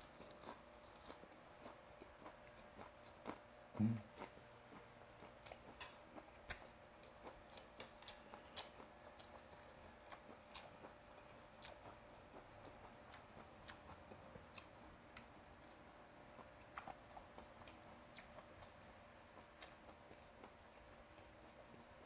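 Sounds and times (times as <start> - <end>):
faint chewing: 0.0 - 22.0.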